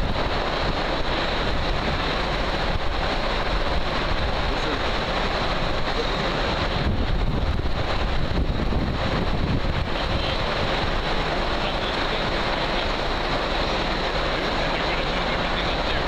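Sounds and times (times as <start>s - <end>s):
plant machinery roar: 0.0s - 16.0s.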